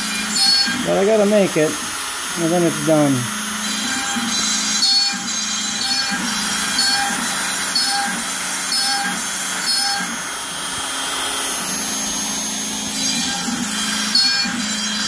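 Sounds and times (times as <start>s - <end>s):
router whining: 0.0s - 15.0s.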